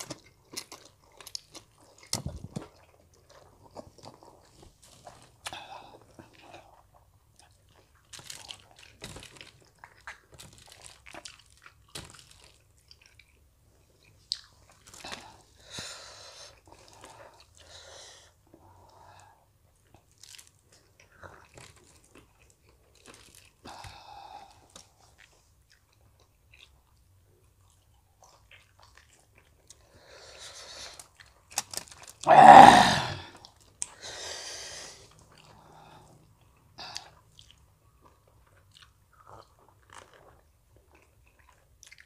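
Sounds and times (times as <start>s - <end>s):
chewing and biting food: 0.0s - 15.6s, 19.6s - 32.3s, 35.0s - 42.0s.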